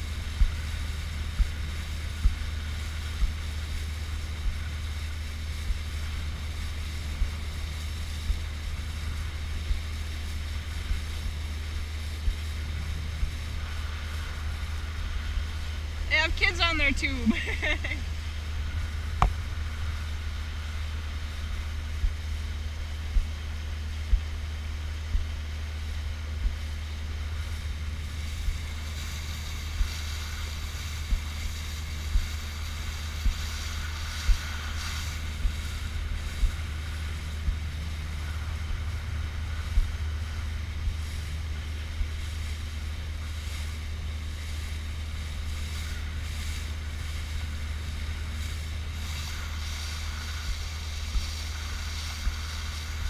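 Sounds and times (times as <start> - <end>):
hull slapping waves: 0.0 - 53.0
motorboat running: 0.0 - 53.0
water rushing past hull: 0.0 - 53.0
wind rumble on microphone: 0.0 - 53.0.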